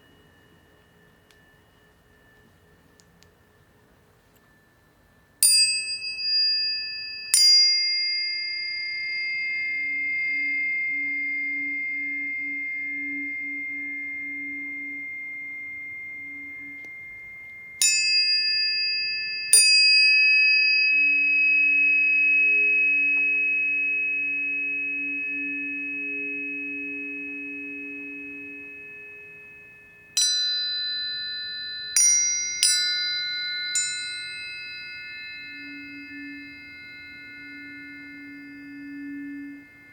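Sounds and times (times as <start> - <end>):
tuning forks ringing: 0.0 - 39.9.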